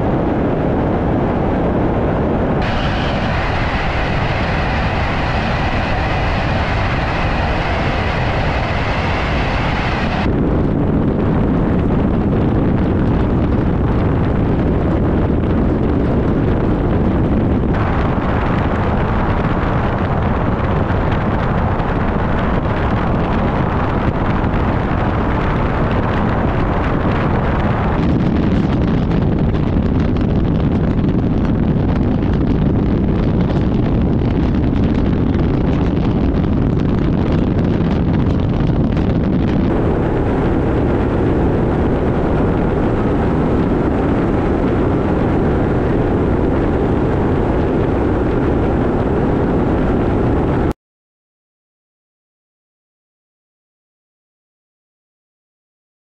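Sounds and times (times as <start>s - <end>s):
wind rushing on microphone: 0.0s - 50.8s.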